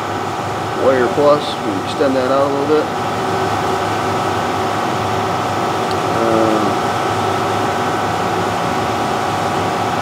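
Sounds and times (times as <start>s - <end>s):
air compressor running: 0.0s - 10.0s.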